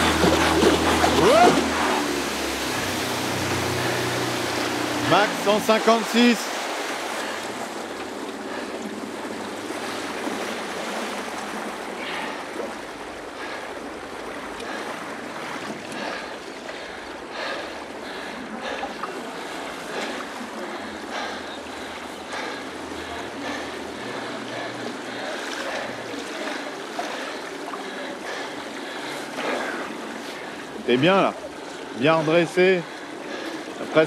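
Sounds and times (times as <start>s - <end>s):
paddle blades splashing: 0.0s - 34.0s
water rushing past kayak: 0.0s - 34.0s.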